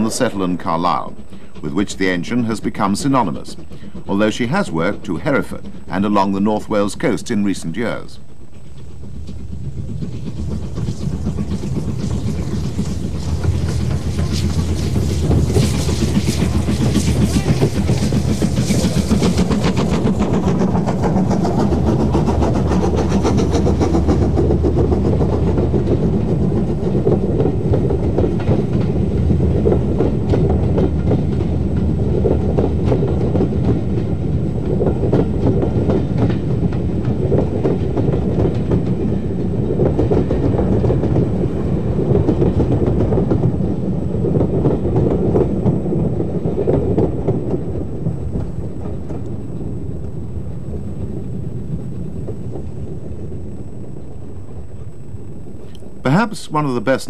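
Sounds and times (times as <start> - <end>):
coach wheels clattering over rail joints: 0.0 - 57.0
steam locomotive running past: 0.0 - 57.0.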